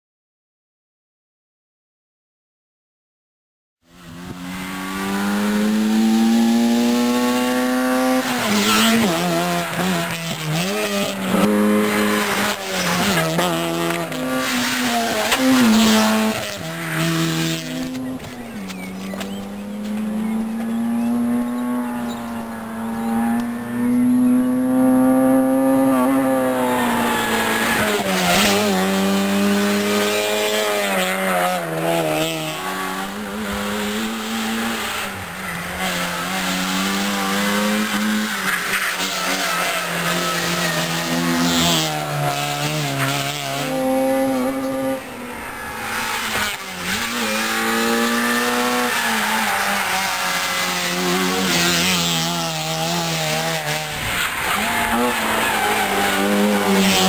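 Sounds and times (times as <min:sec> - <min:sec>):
rally car engine revving: 0:03.9 - 0:57.0.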